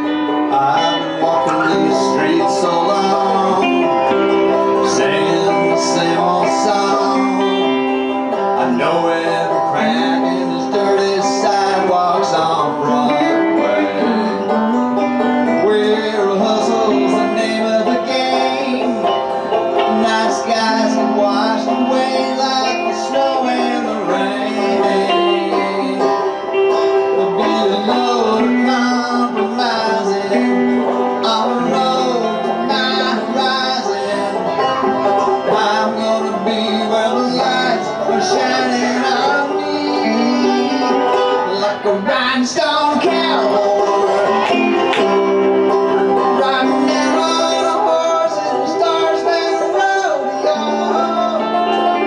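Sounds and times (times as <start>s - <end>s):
banjo: 0.0s - 52.0s
electric guitar: 0.0s - 52.0s.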